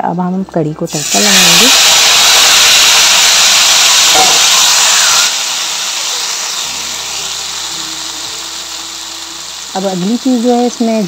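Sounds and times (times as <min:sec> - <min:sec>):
hot oil sizzling: 0:00.9 - 0:11.0.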